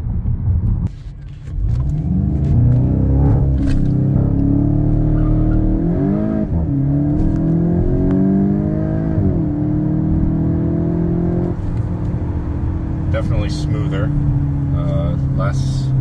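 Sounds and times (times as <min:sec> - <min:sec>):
car engine accelerating through gears: 0:00.8 - 0:16.0.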